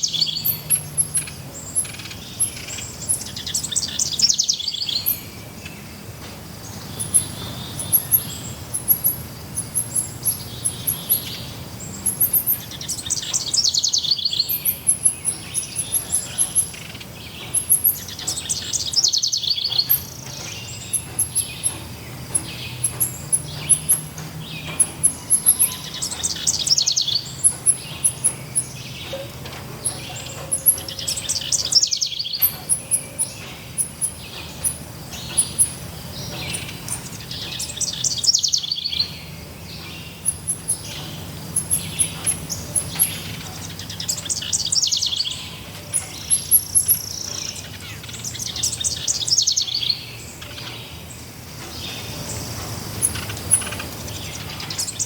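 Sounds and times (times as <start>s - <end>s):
very high bird chirps: 0.0s - 55.0s.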